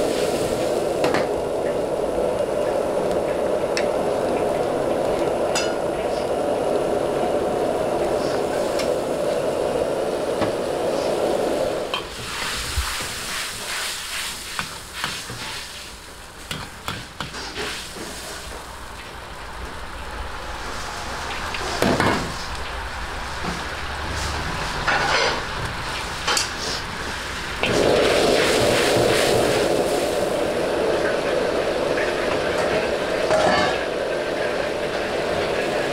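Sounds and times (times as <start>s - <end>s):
sauce sizzling: 0.0s - 19.5s, 20.5s - 35.9s
gas burner rushing: 0.0s - 35.9s.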